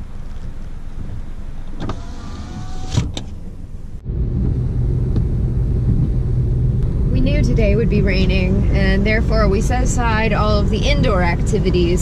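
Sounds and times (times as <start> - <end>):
car engine rumble: 0.0 - 12.0
engine and road rumble in cabin: 0.0 - 12.0.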